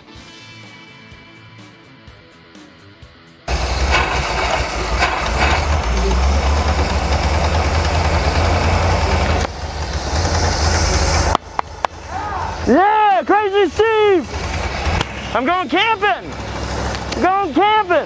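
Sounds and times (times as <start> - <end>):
vehicle engine rumbling: 3.5 - 18.0.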